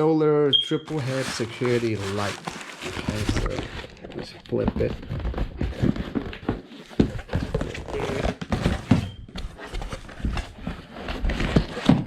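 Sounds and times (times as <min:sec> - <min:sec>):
cardboard box scraping: 0:00.9 - 0:12.0.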